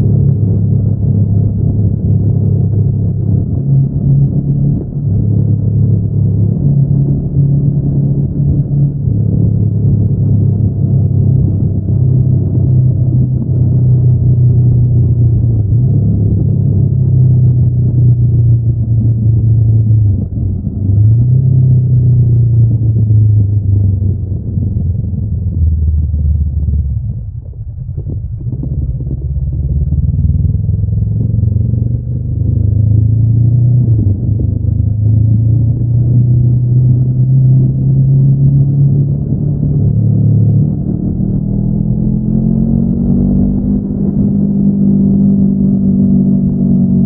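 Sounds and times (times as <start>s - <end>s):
motorcycle engine rumbling: 0.0s - 47.0s.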